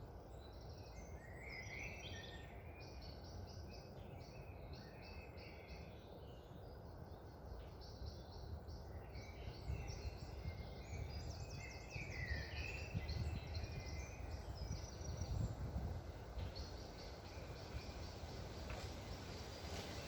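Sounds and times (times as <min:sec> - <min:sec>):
low rush of wind: 0:00.0 - 0:20.0
songbirds chirping and trilling: 0:00.0 - 0:20.0.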